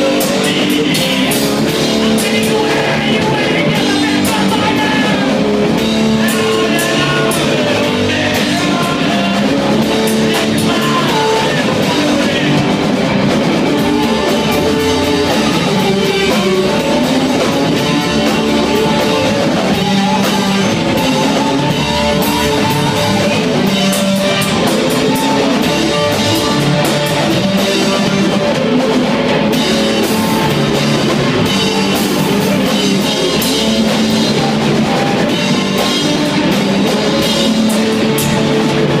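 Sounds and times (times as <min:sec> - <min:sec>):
distorted electric guitars: 0:00.0 - 0:39.0
driving drum kit: 0:00.0 - 0:39.0.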